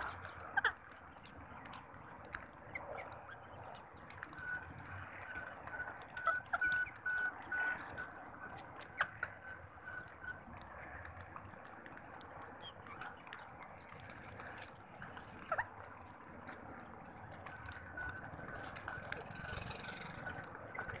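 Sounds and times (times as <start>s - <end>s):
pigeons pecking on a rooftop: 0.0s - 21.0s.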